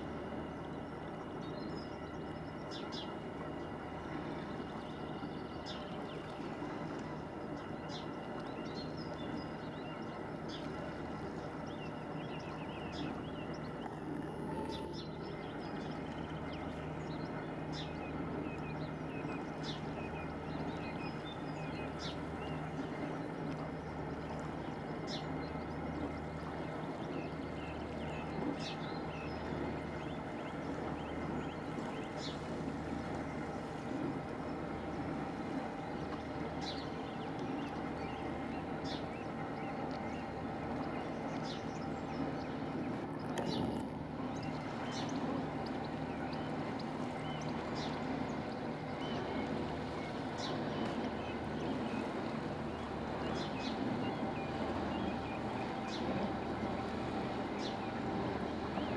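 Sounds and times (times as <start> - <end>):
ship engines droning: 0.0 - 58.9.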